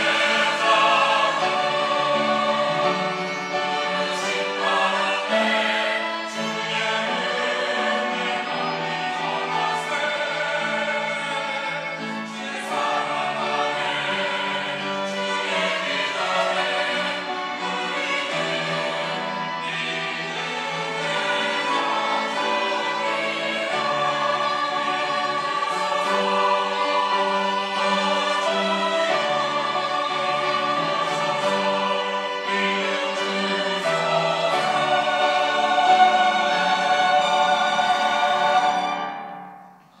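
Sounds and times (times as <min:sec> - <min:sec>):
choir singing a hymn: 0:00.0 - 0:39.5
string accompaniment: 0:00.0 - 0:40.0.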